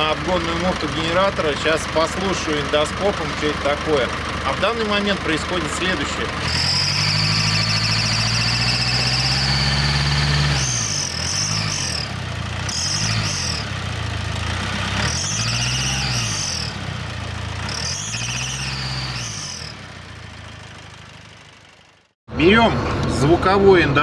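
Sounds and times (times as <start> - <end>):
car engine revving: 0.0 - 22.2.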